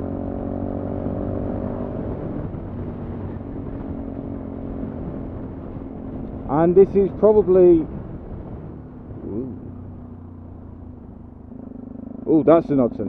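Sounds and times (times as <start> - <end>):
low wind rumble: 0.0 - 13.0
motorcycle engine cruising: 0.0 - 13.0.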